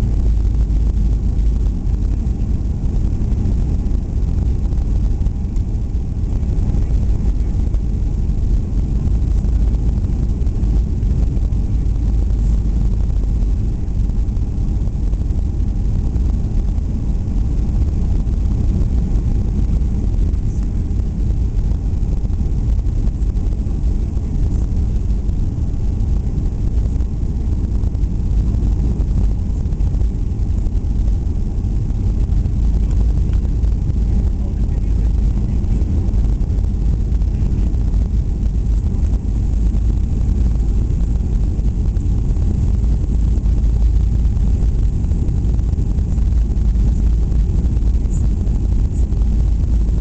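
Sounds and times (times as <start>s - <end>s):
airliner cabin rumble: 0.0s - 50.0s
faint steady hum: 0.0s - 50.0s.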